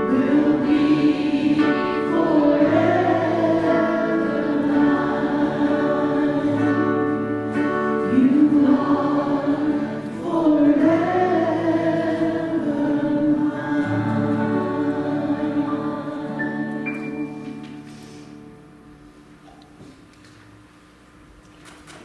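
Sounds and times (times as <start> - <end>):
group singing a hymn: 0.0 - 17.8
sustained accompanying chords: 0.0 - 19.1.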